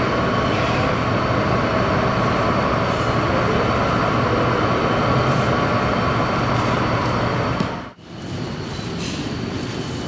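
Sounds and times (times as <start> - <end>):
diesel railcar droning: 0.0 - 10.0.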